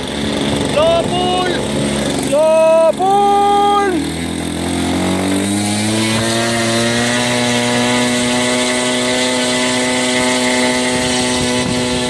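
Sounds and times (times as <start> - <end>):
model plane engine running: 0.0 - 12.0.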